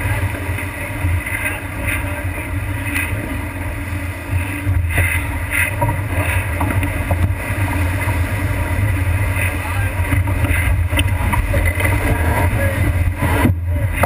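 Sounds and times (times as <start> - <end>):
water rushing along boat hull: 0.0 - 14.0
wind buffeting microphone: 0.0 - 14.0.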